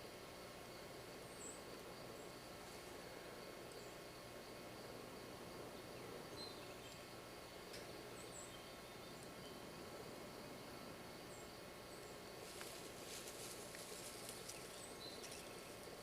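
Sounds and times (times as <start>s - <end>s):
insect trill: 0.0s - 16.0s
steady hiss: 0.0s - 16.0s.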